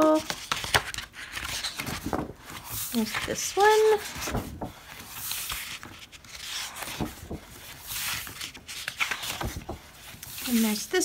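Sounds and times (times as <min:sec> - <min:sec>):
paper sheets rustling: 0:00.0 - 0:11.0.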